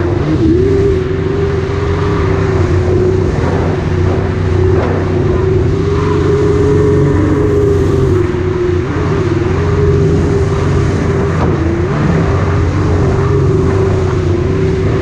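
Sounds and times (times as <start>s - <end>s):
jet ski engine running: 0.0s - 15.0s
rushing noise: 0.0s - 15.0s.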